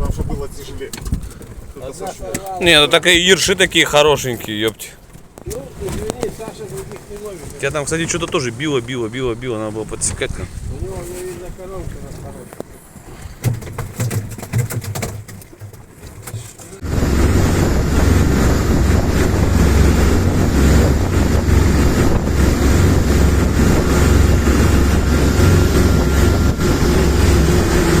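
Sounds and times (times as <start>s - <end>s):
wind buffeting microphone: 0.0s - 14.4s, 16.8s - 28.0s
motorboat engine rumble: 0.0s - 28.0s.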